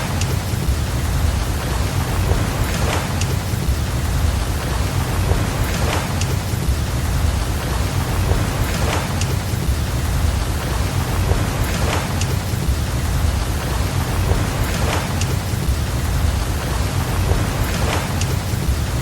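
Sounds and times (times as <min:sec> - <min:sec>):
rain hiss: 0:00.0 - 0:19.0.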